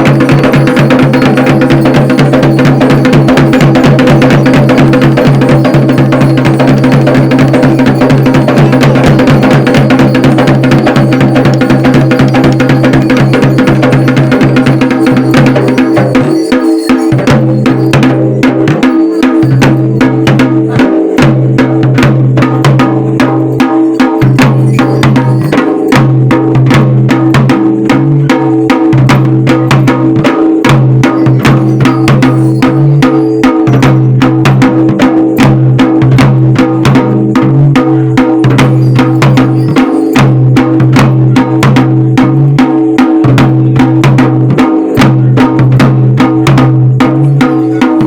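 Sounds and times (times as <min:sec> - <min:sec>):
fast drumbeat: 0:00.0 - 0:48.0.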